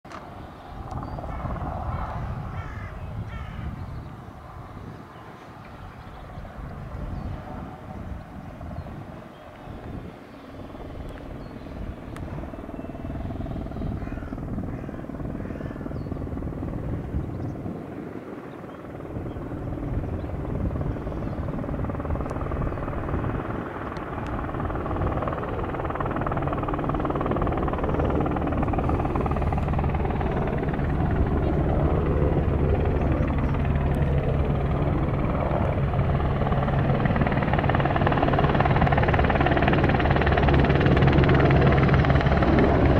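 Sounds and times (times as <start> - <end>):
helicopter rotor beating drone: 0.1 - 42.9.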